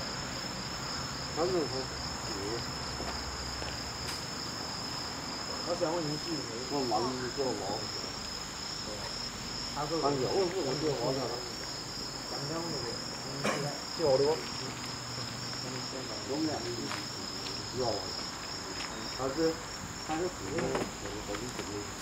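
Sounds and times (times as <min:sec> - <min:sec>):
insect chirring: 0:00.0 - 0:22.0.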